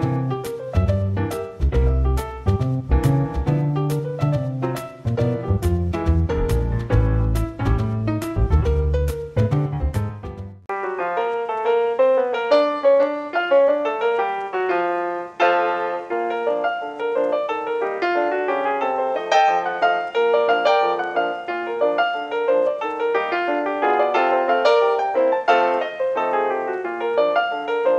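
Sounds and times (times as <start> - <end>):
brisk piano tune: 0.0 - 27.9.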